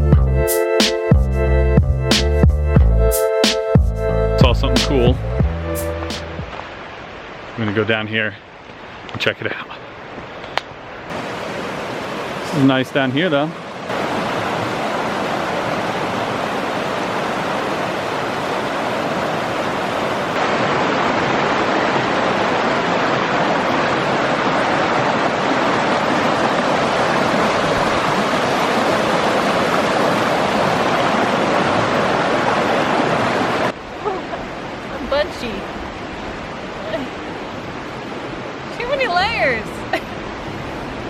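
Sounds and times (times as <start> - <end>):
creek water rushing: 4.4 - 41.0.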